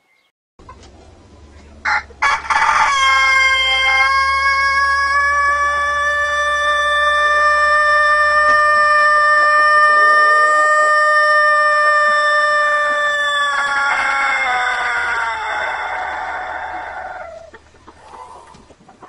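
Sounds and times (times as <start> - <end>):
rooster crowing: 1.8 - 17.6.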